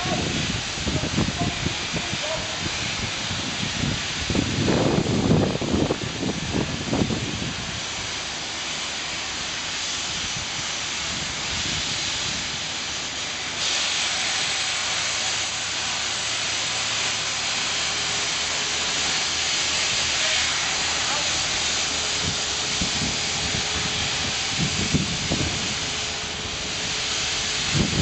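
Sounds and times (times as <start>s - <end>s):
grit blasting hiss: 0.0s - 28.0s.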